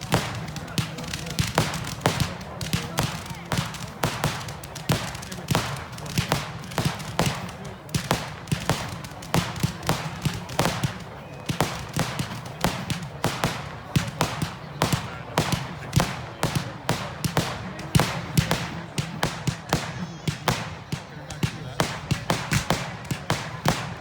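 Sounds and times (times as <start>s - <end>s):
firework bangs echoing: 0.0s - 24.0s.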